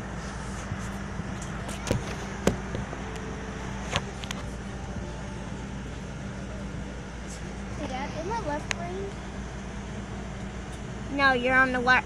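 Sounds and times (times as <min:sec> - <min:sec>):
aircraft cabin hum: 0:00.0 - 0:11.1.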